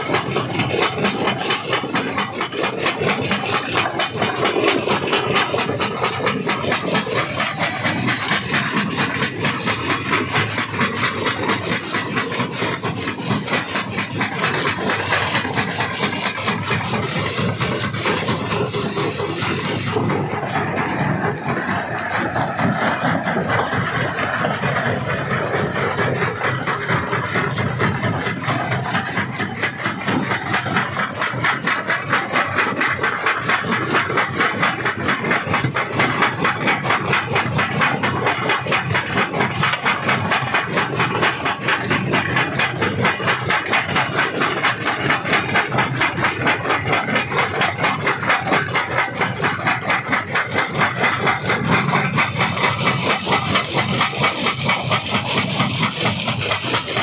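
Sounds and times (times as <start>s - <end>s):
stone crusher machine din: 0.0s - 57.0s.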